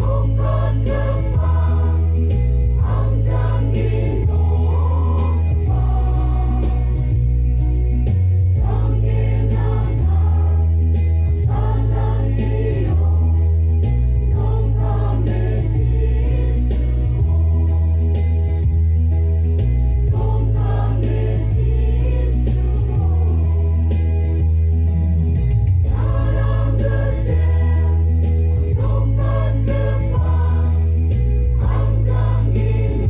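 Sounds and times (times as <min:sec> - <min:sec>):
women's choir singing gospel: 0:00.0 - 0:07.5, 0:08.5 - 0:18.1, 0:20.0 - 0:24.2, 0:25.9 - 0:33.0
deep amplified bass line: 0:00.0 - 0:33.0.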